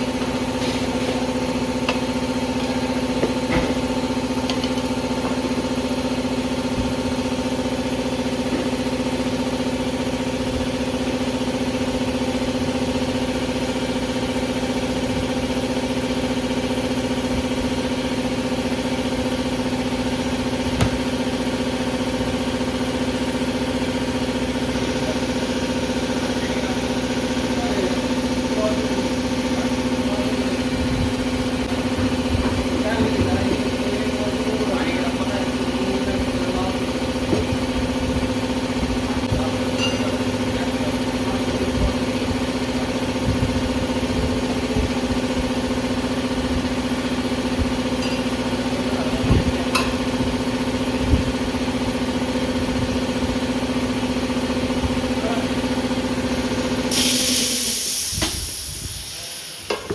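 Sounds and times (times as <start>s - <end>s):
machine humming steadily: 0.0s - 59.9s.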